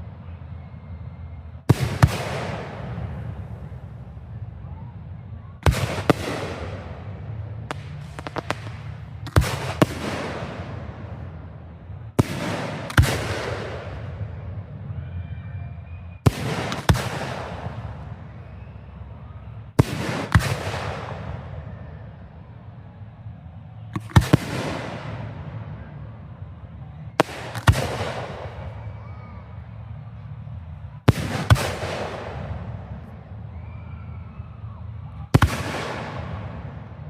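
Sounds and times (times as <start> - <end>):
fireworks bangs with rolling echo: 1.6 - 4.9, 5.6 - 14.9, 16.2 - 22.6, 23.2 - 34.4, 35.1 - 37.0.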